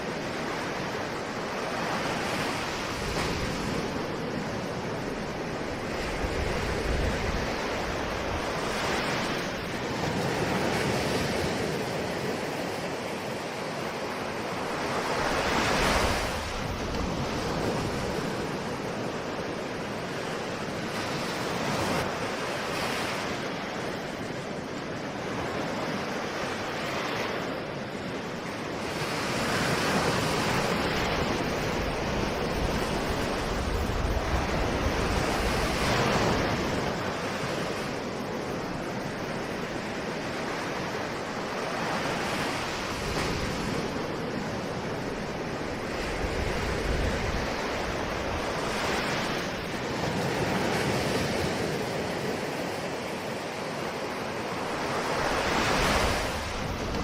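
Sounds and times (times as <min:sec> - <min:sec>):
waves breaking and washing ashore: 0:00.0 - 0:57.0.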